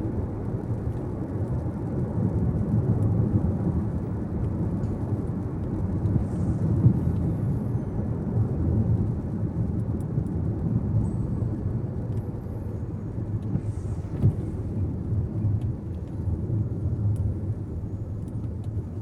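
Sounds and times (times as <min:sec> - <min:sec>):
tyre and engine rumble in car: 0:00.0 - 0:19.0.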